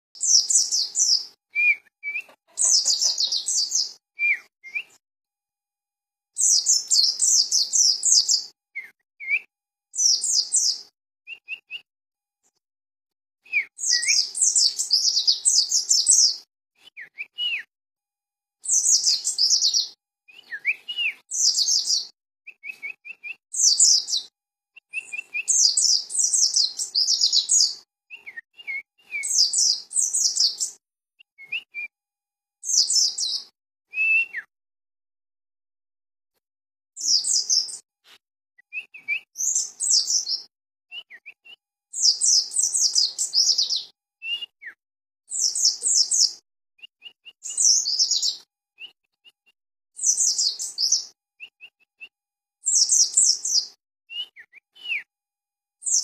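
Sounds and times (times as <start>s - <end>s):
bird twittering song: 0.2s - 5.0s, 6.4s - 11.9s, 13.5s - 17.7s, 18.6s - 31.9s, 32.6s - 34.5s, 37.0s - 37.8s, 38.7s - 55.1s.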